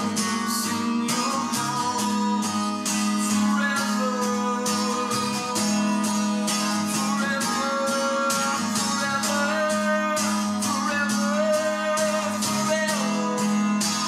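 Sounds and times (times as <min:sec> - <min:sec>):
acoustic guitar strumming: 0:00.0 - 0:14.0
man singing worship song: 0:00.0 - 0:14.0.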